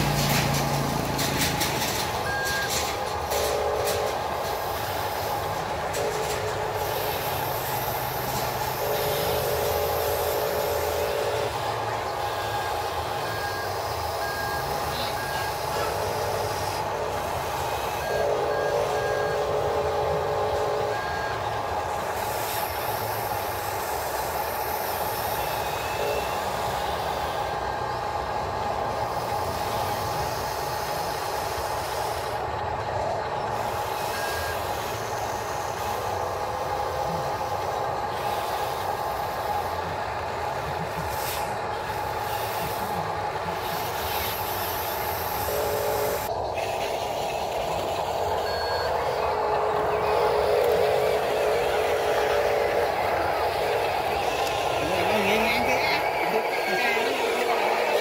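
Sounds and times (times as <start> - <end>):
electric motors whining: 0.0 - 58.0
lower motor whine: 0.0 - 58.0.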